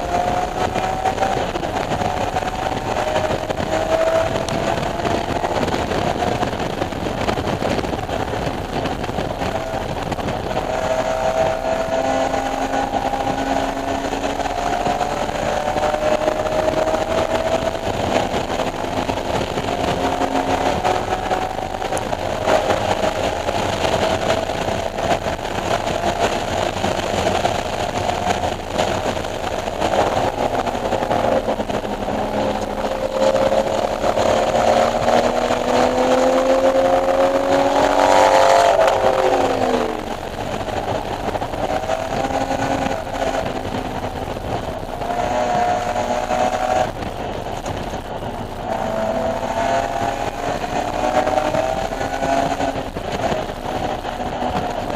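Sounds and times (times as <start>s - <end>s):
car engine revving hard: 0.0s - 54.9s.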